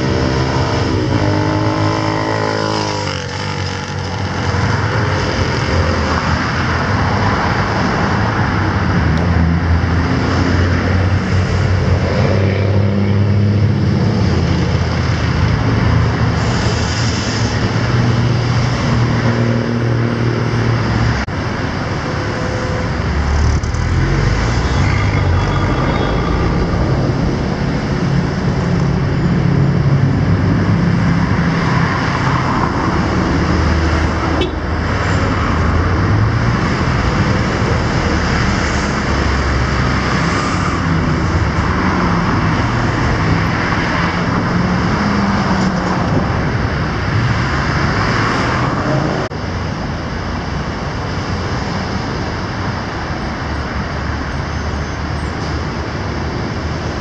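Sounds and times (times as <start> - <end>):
busy traffic hum: 0.0 - 57.0
cars passing close by: 0.0 - 57.0.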